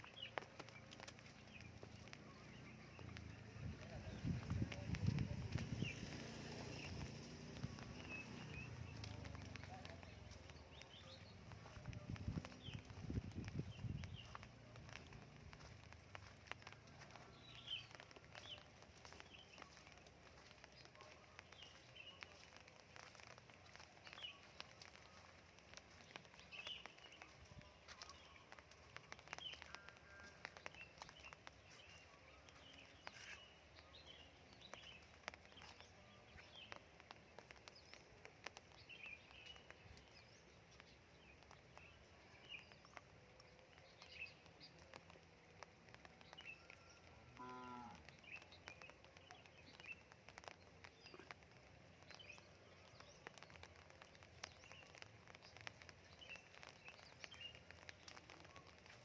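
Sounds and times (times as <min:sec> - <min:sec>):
raindrops dripping: 0:00.0 - 0:59.0
small birds chirping: 0:00.0 - 0:59.0.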